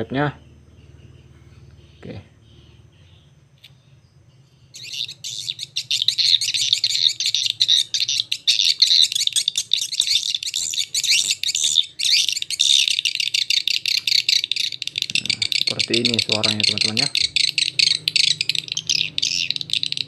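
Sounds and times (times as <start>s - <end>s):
shrill rapid bird twittering from speakers: 0.0s - 20.0s.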